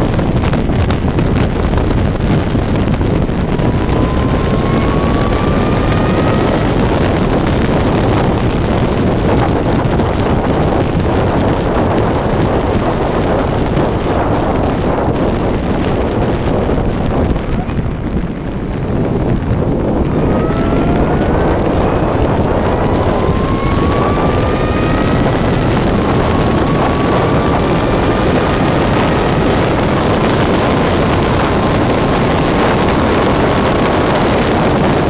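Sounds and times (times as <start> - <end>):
racing engine accelerating: 0.0 - 35.0
wind noise on microphone: 0.0 - 35.0.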